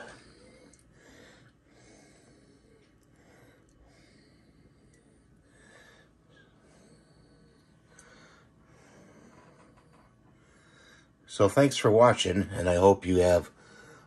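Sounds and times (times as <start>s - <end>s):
faint breaths: 0.0s - 14.0s.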